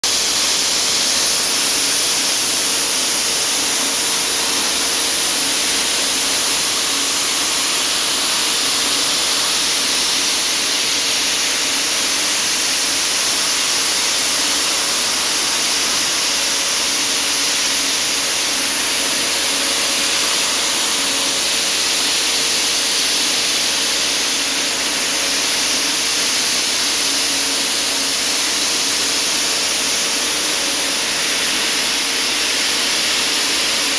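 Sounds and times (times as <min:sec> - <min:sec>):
compressed air hissing: 0:00.0 - 0:33.9.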